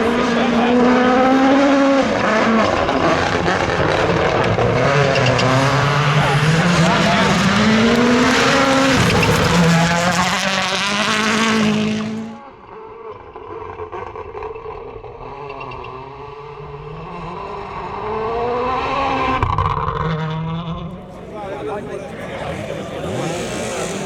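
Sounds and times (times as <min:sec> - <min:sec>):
rally car passing at full throttle: 0:00.0 - 0:24.0.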